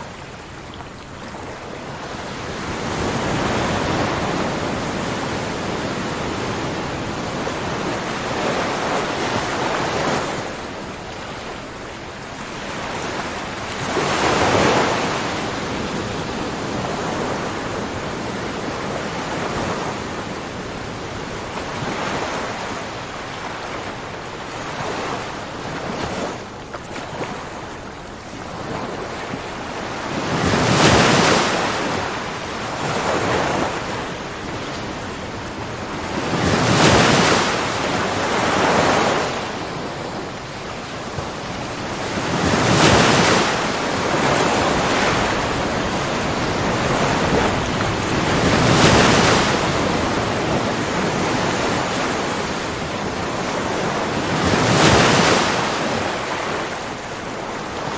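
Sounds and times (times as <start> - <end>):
ocean waves washing ashore: 0.0 - 57.9.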